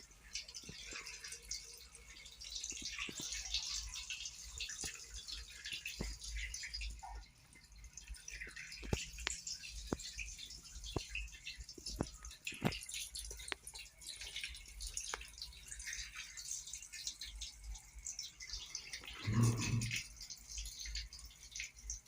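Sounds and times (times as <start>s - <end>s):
water dripping: 0.0s - 22.0s.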